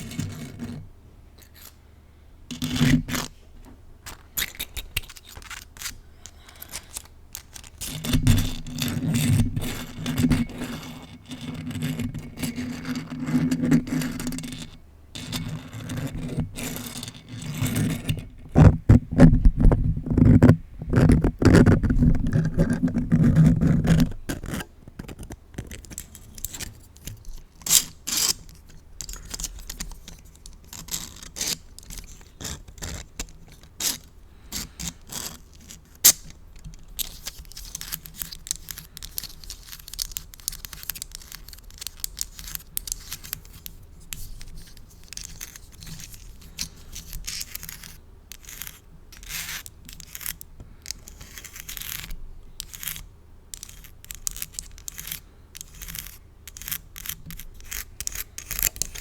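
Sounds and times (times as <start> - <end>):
nails scraping plastic toy: 0.0 - 0.8, 1.4 - 1.8, 2.5 - 3.4, 4.0 - 59.0.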